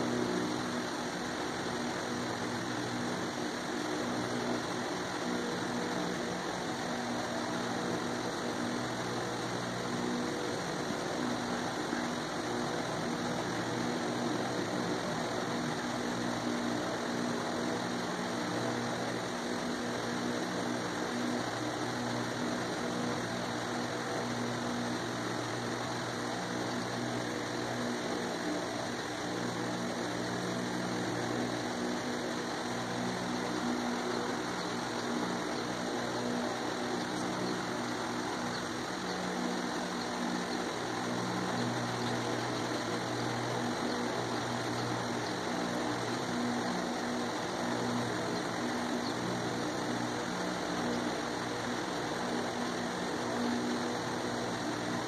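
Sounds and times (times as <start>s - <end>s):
constant noise haze: 0.0s - 55.0s
low mechanical hum: 0.0s - 55.0s.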